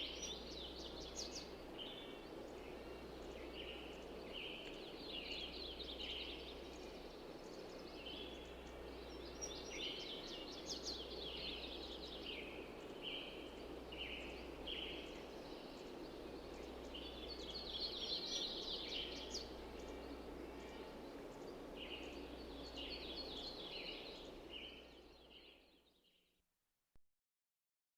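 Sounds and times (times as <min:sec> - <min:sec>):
birds chirping: 0:00.0 - 0:25.7
steady background hiss: 0:00.0 - 0:26.0.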